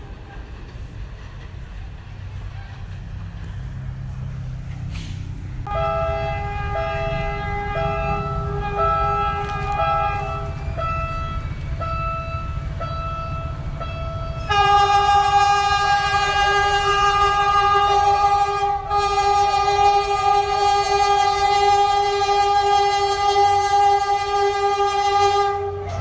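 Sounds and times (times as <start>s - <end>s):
diesel train engine rumble: 0.0s - 26.0s.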